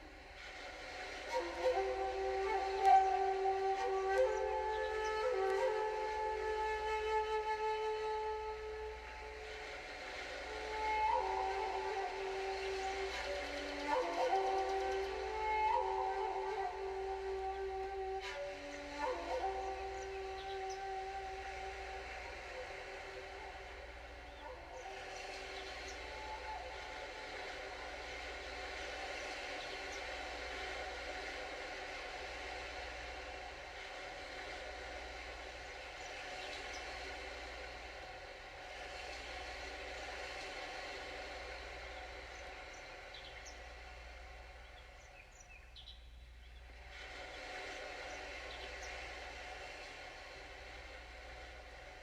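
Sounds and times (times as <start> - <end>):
ocean waves: 0.0 - 52.0
surf-like wash over speaker: 0.0 - 52.0.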